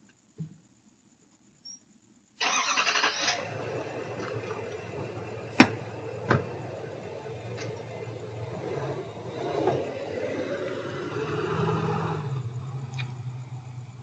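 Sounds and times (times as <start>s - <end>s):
truck engine cranking and running: 2.4s - 14.0s.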